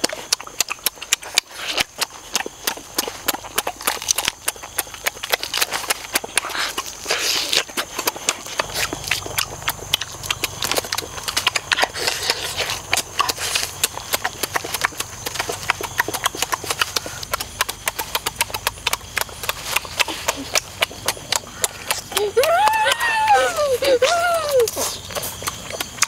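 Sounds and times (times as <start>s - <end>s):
person chewing with lip-smacking: 0.0s - 26.0s.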